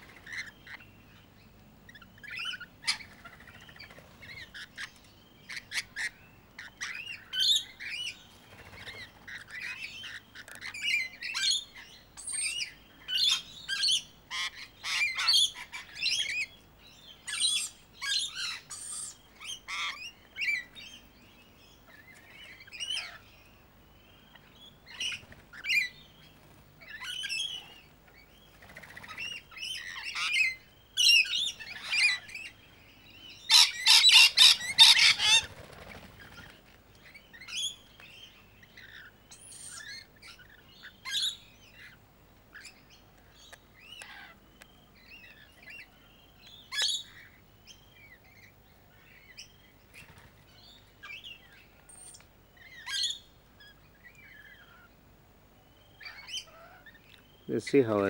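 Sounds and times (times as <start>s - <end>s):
lorikeets chattering and screeching: 0.0s - 21.1s, 21.7s - 23.5s, 24.1s - 55.0s, 55.7s - 58.0s.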